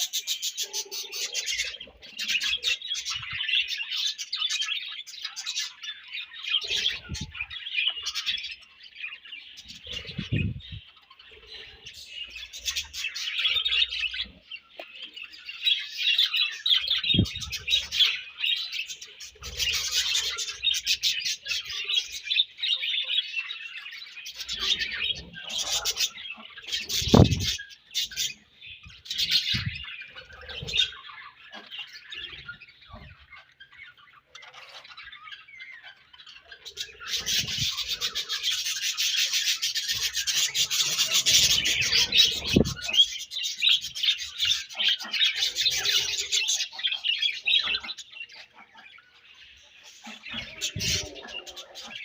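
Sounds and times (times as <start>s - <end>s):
budgerigars chirping and warbling: 0.0s - 52.0s.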